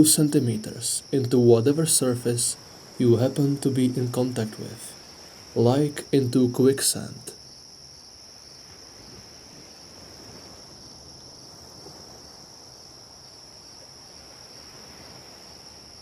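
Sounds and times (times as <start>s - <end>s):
faint cricket chorus: 0.0s - 16.0s.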